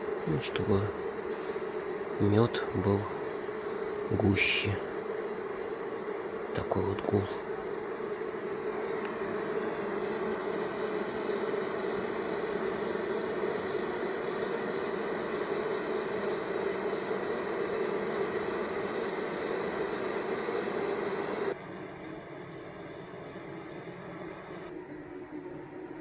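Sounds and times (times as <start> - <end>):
honeybees humming: 0.0 - 26.0.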